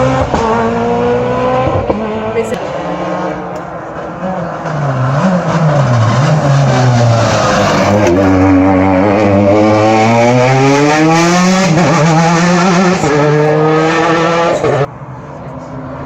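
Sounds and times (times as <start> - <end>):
rally car engine revving: 0.0 - 14.9.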